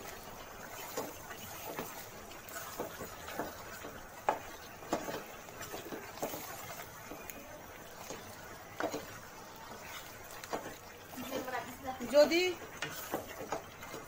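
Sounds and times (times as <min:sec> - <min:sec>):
wooden spatula scraping a metal pot: 0:00.0 - 0:14.0.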